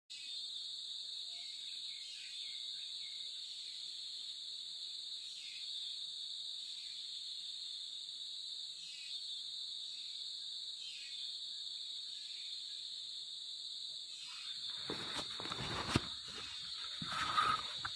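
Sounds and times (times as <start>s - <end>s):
insects buzzing: 0.2s - 17.9s.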